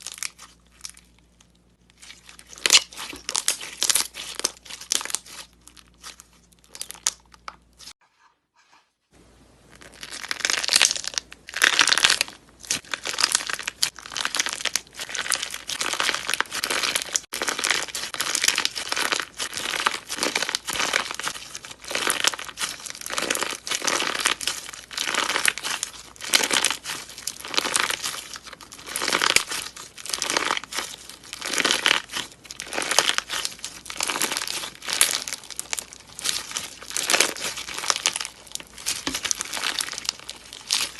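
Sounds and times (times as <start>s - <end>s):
slime squeezed by hand crackling: 2.0s - 7.9s, 9.8s - 40.9s.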